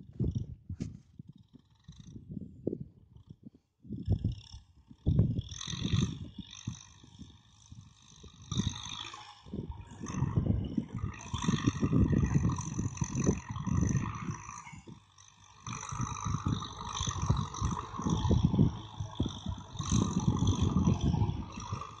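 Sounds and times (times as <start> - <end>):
distant tractor drone: 0.0 - 22.0
wind buffeting microphone: 0.0 - 22.0.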